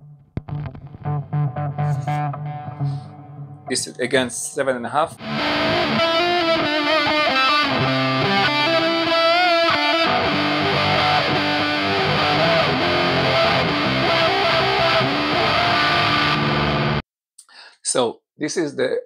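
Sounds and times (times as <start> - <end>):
fuzz electric guitar: 0.0 - 3.7, 5.2 - 17.0.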